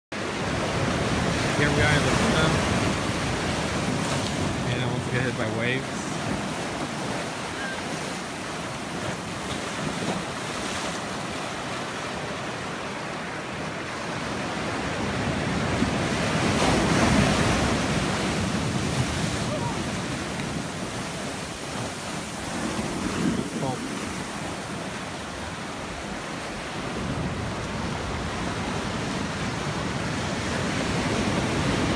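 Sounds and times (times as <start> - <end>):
ocean surf breaking on rocks: 0.2 - 31.9.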